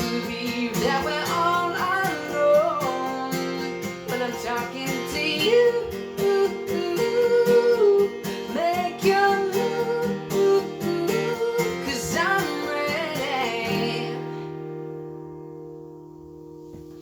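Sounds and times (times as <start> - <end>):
woman singing wordless vocal: 0.0 - 14.6
guitar strumming: 0.0 - 17.0.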